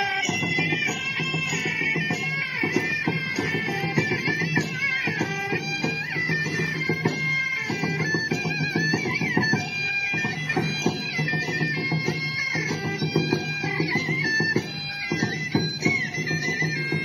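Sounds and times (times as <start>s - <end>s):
drum and cymbal beats: 0.0s - 17.0s.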